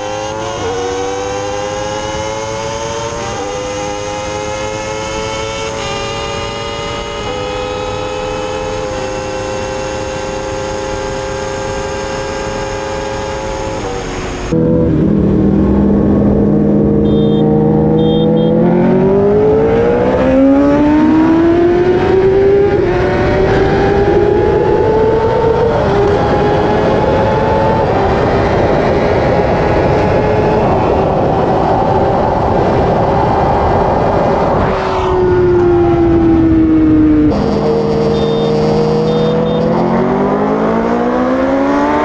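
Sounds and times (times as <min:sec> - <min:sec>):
motorcycle engine at full throttle: 0:00.0 - 0:42.0
heavy wind rush: 0:00.2 - 0:17.0, 0:17.6 - 0:38.0.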